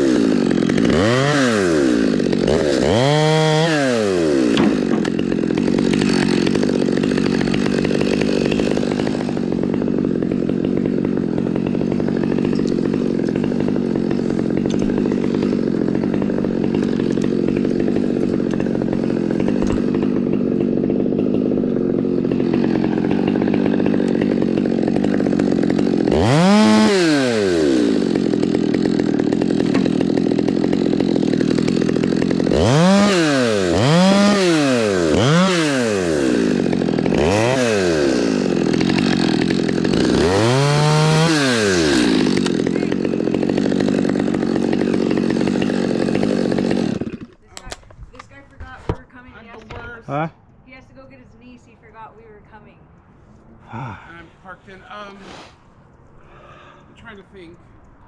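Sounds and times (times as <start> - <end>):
chainsaw revving: 0.0 - 50.2.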